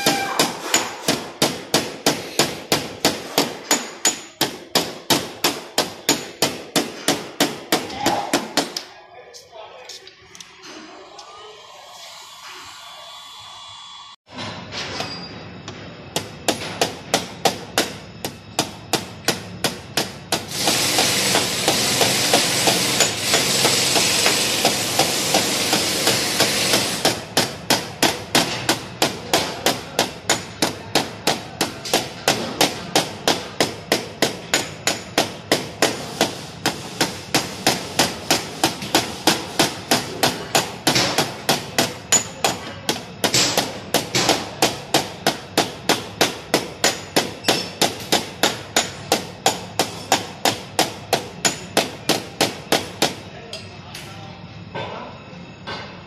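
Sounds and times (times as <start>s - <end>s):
hammer tapping metal punch: 0.0s - 8.9s, 16.2s - 53.6s.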